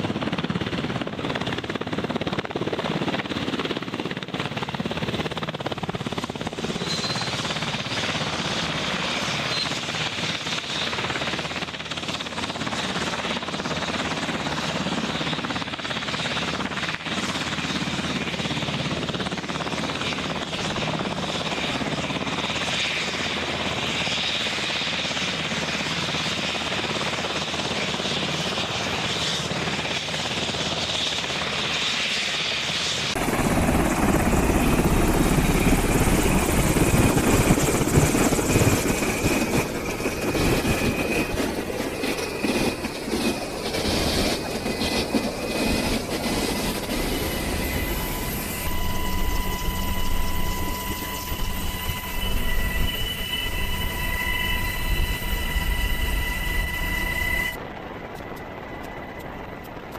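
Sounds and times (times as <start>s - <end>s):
helicopter turbine whine and rotor: 0.0s - 59.9s.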